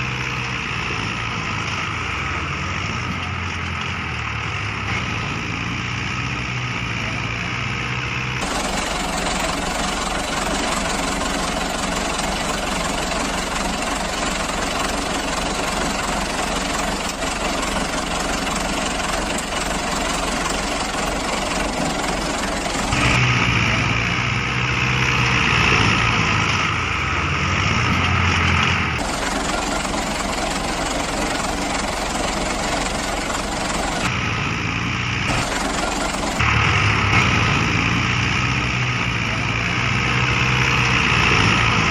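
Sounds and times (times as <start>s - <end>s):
heavy vehicle engines running: 0.0s - 41.9s.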